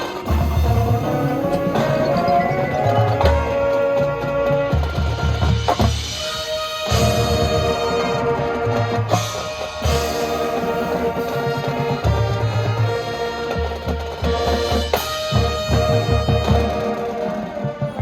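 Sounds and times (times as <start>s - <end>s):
brass chords: 0.0s - 18.0s.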